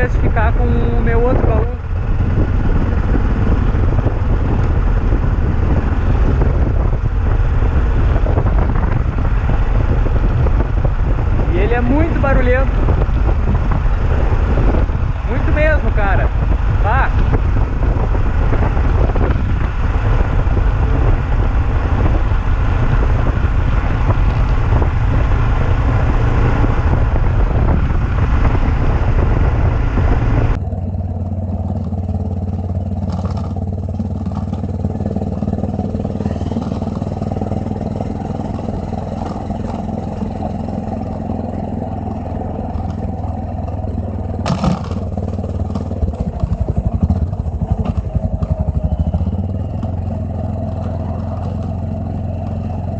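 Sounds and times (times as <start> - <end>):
motorcycle engine running: 0.0 - 52.9
wind noise: 0.0 - 52.9.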